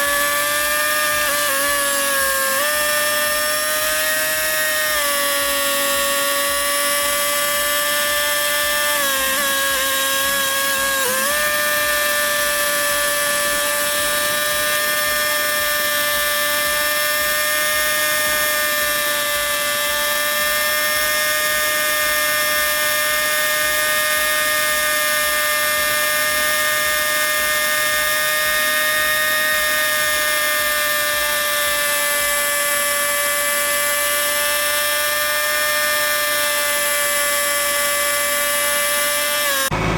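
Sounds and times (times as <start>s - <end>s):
tractor engine whining: 0.0s - 22.8s, 23.4s - 39.9s.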